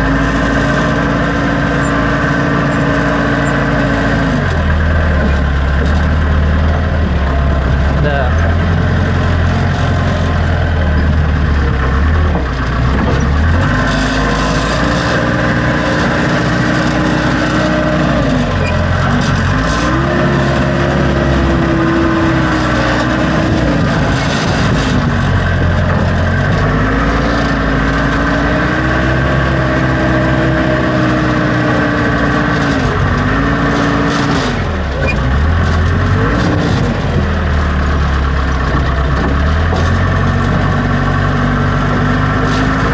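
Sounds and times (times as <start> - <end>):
diesel engine idling and revving: 0.0 - 42.9.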